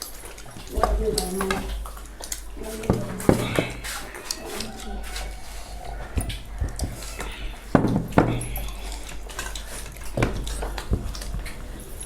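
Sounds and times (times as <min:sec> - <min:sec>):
chewing noises: 0:00.0 - 0:12.0
cutlery clinking on dishes: 0:00.0 - 0:12.0.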